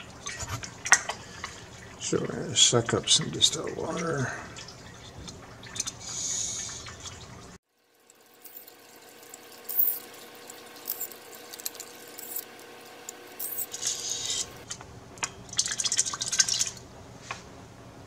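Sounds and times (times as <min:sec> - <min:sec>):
water squirting and dripping: 0:00.0 - 0:16.9.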